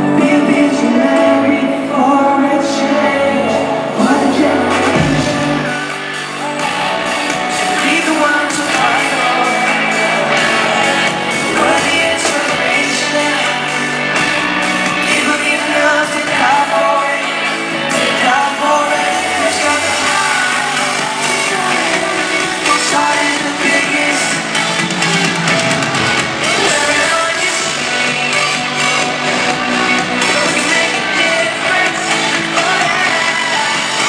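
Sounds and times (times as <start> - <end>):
live pop song with singing: 0.0 - 34.0.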